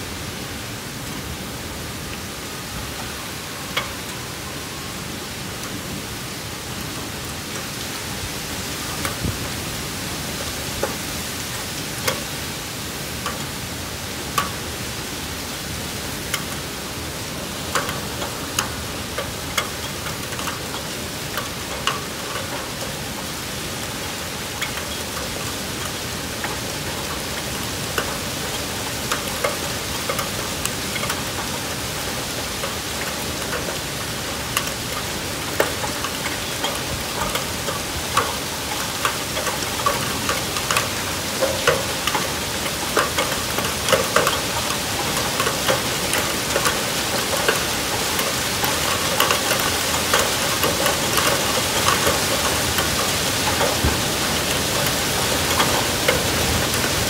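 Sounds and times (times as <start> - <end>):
heavy rain pouring: 0.0 - 57.0
hailstones ticking: 2.9 - 57.0.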